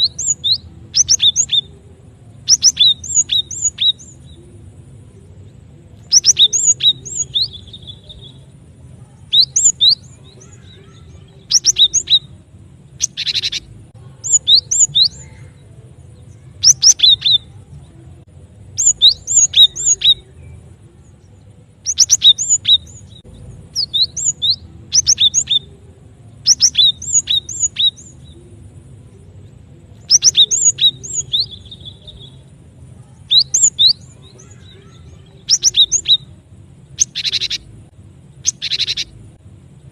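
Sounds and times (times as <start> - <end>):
bird whistled song: 0.0 - 17.9, 18.7 - 29.2, 29.9 - 39.9
faint low hum: 0.0 - 39.9.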